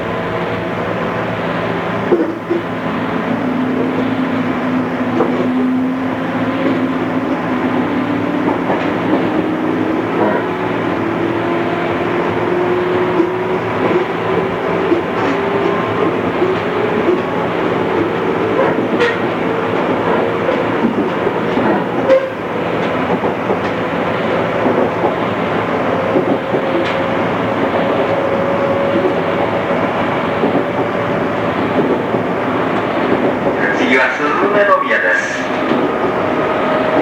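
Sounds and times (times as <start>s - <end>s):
electric train wheel and motor noise: 0.0s - 37.0s.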